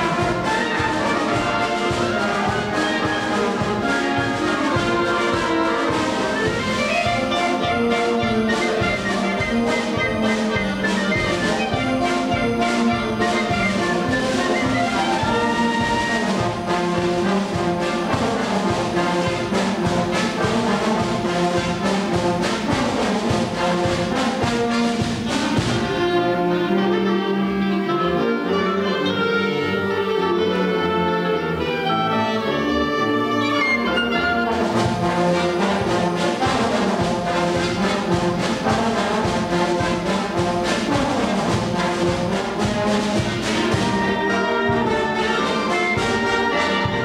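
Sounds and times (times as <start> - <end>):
steady drum beat: 0.0 - 26.2, 34.4 - 47.0
concert band playing: 0.0 - 47.0.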